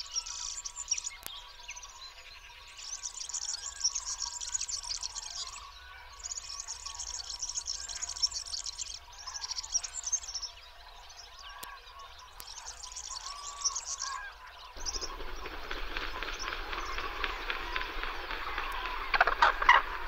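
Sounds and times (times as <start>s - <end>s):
birds trilling and chattering: 0.0s - 20.0s.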